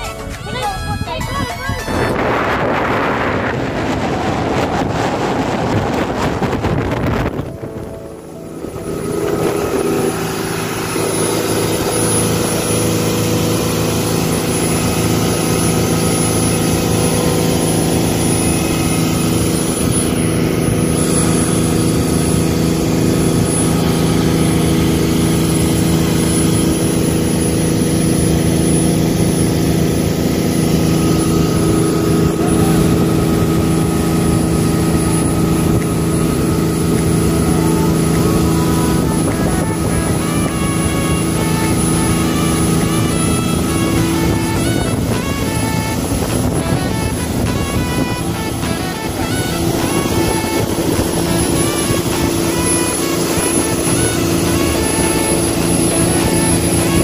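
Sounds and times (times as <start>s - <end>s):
motorboat engine running: 0.0s - 57.0s
wind: 0.0s - 57.0s
rushing water: 1.8s - 57.0s.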